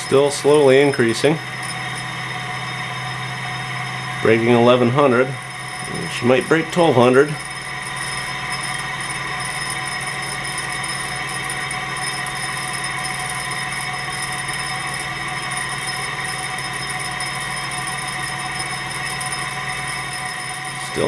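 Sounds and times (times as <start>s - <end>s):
stirling engine humming: 0.0s - 21.0s.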